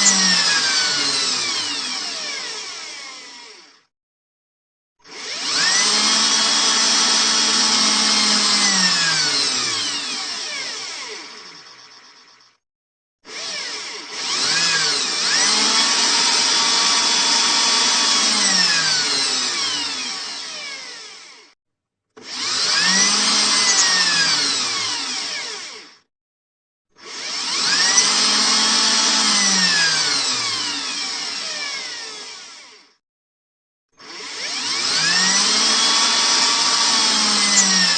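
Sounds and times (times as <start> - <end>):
power drill whining: 0.0 - 3.9, 5.0 - 12.6, 13.2 - 21.6, 22.2 - 26.1, 27.0 - 33.0, 34.0 - 37.9.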